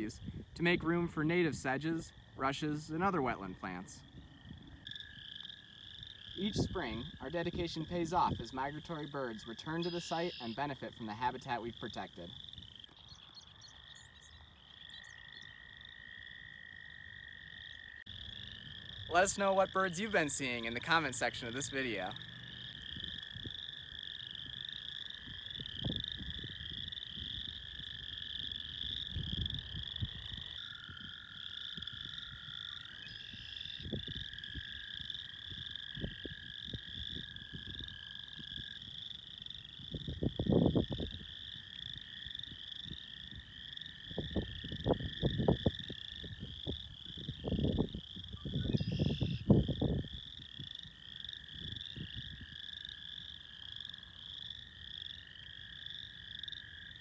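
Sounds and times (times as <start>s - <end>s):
frogs trilling: 0.0s - 57.0s.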